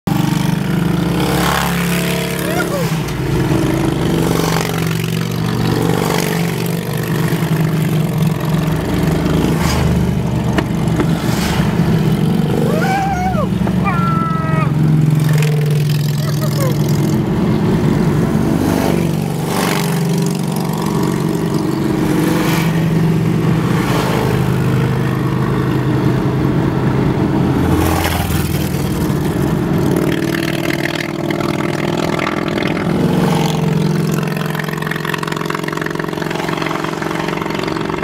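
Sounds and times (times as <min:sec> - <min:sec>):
motorcycle engines running: 0:00.1 - 0:38.0.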